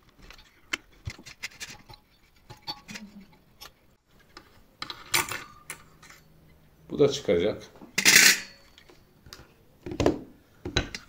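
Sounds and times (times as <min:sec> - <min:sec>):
parts clattering: 0:00.0 - 0:06.4, 0:07.8 - 0:11.0.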